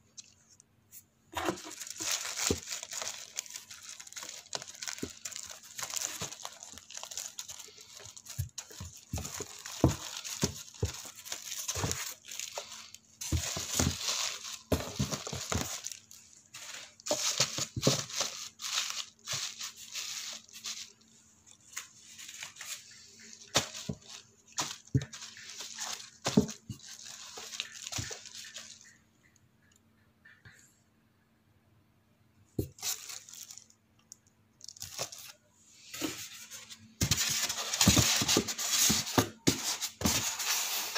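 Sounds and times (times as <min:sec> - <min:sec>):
plastic wrapping crinkling: 0:01.3 - 0:29.0, 0:32.6 - 0:40.9.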